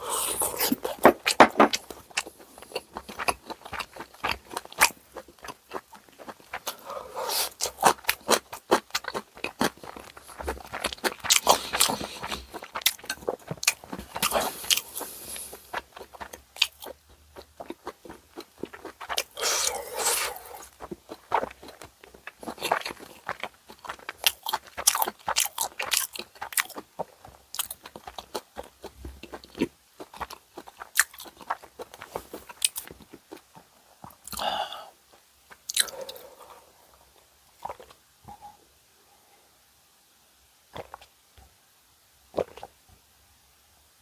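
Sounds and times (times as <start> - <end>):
crunching and wet chewing: 0.0 - 38.6, 40.7 - 41.1, 42.3 - 42.8.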